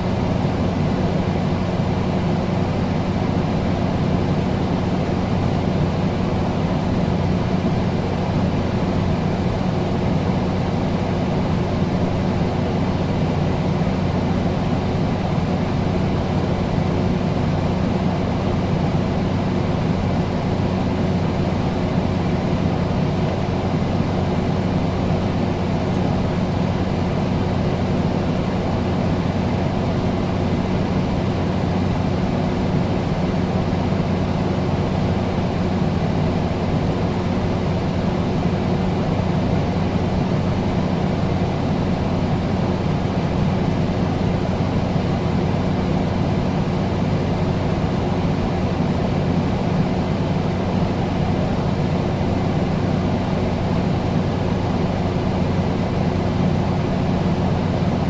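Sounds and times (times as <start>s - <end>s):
air conditioner running: 0.0s - 58.0s.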